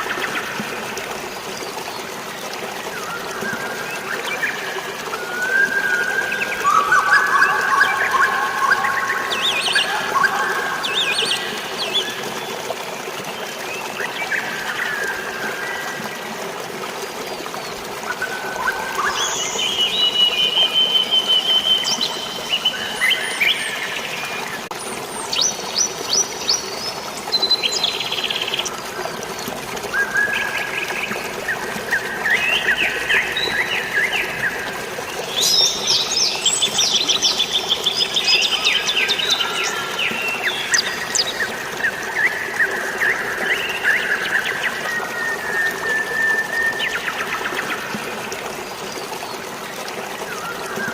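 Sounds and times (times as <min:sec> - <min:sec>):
flowing water hiss: 0:00.0 - 0:50.9.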